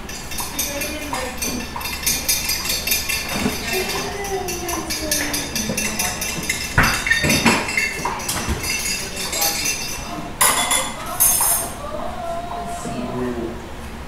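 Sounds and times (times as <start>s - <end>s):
dishes and utensils clinking: 0.0s - 11.8s.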